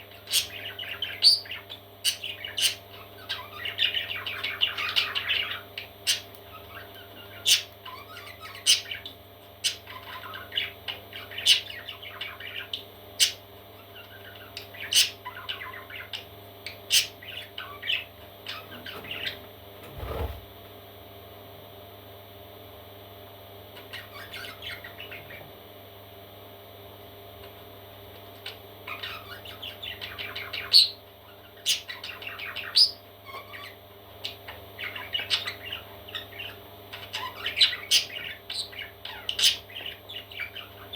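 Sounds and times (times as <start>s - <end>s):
parrot chicks squawking: 0.0s - 20.4s, 23.8s - 25.5s, 28.4s - 40.9s
steady low hum: 0.0s - 40.9s.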